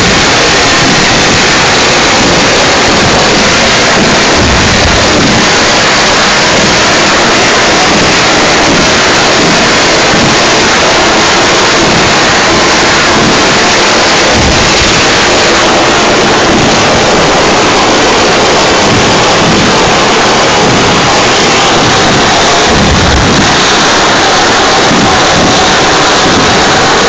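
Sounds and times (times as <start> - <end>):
fireworks crackling and bursting: 0.0 - 27.0.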